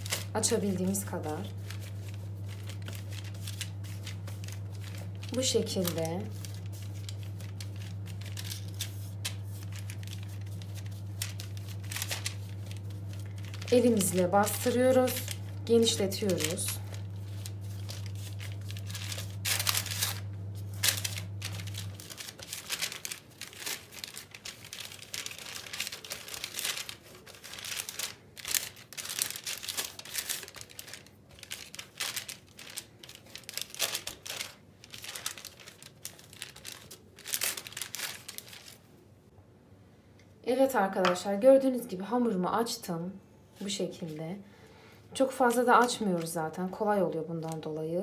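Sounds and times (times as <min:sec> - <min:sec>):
baking paper crinkling: 0:00.0 - 0:39.0, 0:45.1 - 0:47.8
low steady hum: 0:00.0 - 0:48.0.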